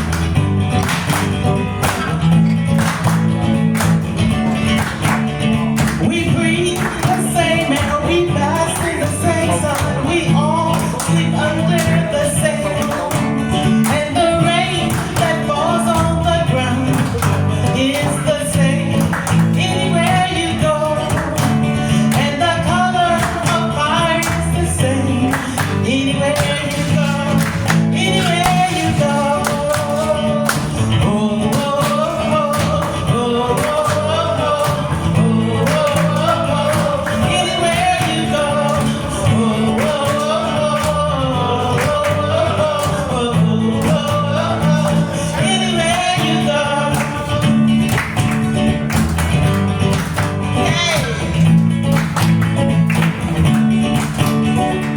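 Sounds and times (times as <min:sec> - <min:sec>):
band music with singer: 0:00.0 - 0:54.9.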